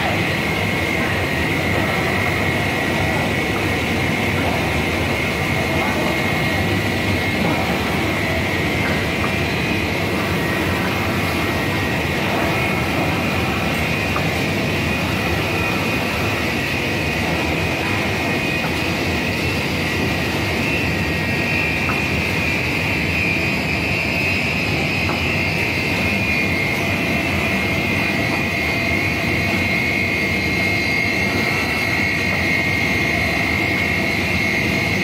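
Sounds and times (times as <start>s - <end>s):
machine hum with high hiss: 0.0s - 35.0s.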